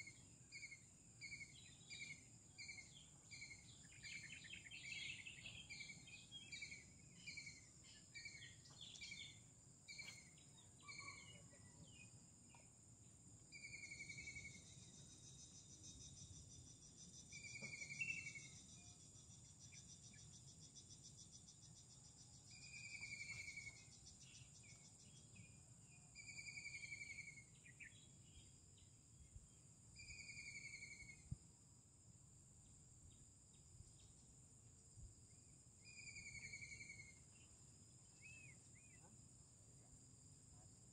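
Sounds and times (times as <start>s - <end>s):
bird chirping: 0.0s - 12.7s, 13.5s - 31.4s, 35.8s - 39.1s
insects droning: 0.0s - 40.9s.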